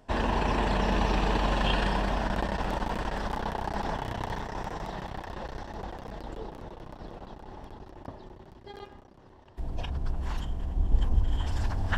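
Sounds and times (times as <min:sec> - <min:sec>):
city traffic: 0:00.0 - 0:11.9
vehicle engine rumble: 0:00.0 - 0:11.9.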